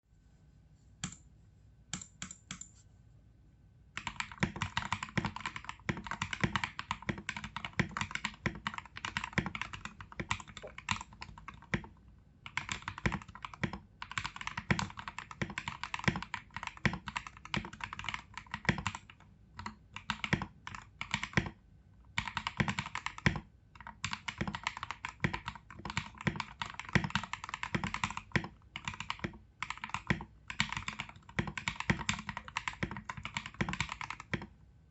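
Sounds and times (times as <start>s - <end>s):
mechanical keyboard typing: 4.0s - 34.6s.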